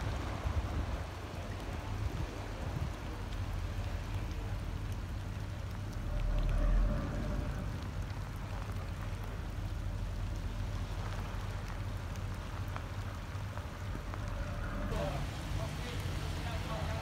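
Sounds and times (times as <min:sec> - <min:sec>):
ship machinery rumble: 0:00.0 - 0:17.0.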